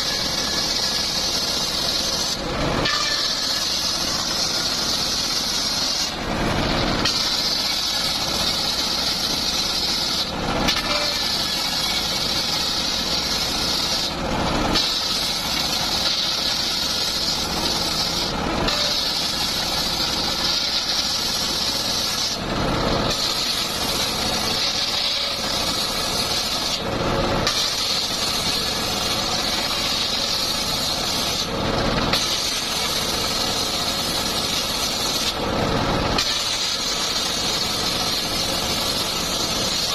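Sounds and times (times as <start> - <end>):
circular saw ripping wood: 0.0 - 39.9.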